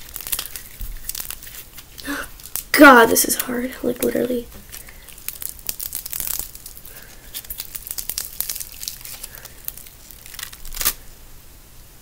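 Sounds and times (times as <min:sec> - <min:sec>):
crunchy slime crackling and popping: 0:00.0 - 0:11.1.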